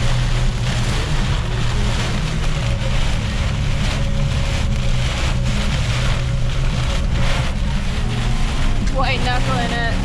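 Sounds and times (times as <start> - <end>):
car engine and road drone: 0.0 - 10.0
rain hissing on vehicle: 0.0 - 10.0.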